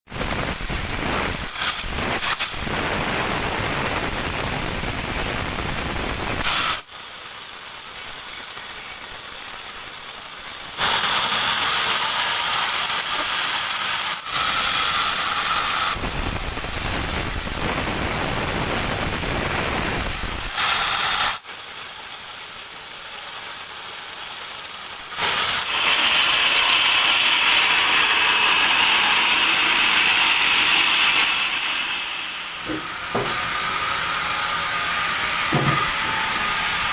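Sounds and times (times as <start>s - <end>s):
band saw cutting wood: 0.1s - 21.5s, 24.7s - 36.9s.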